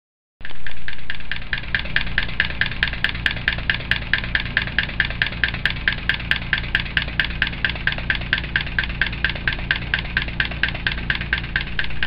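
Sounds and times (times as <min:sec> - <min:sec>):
model steam engine puffing: 0:00.4 - 0:12.0.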